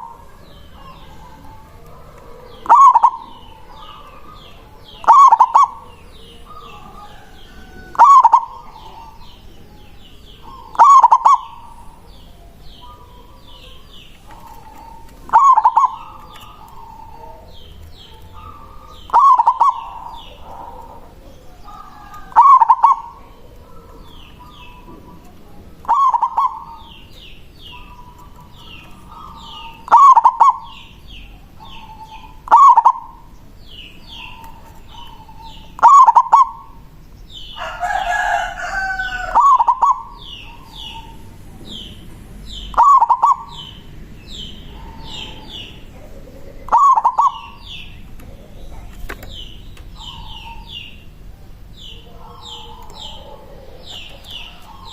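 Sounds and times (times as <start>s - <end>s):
dove cooing: 0.0s - 54.9s
longer bird call: 0.0s - 54.9s
small birds chirping: 0.0s - 54.9s.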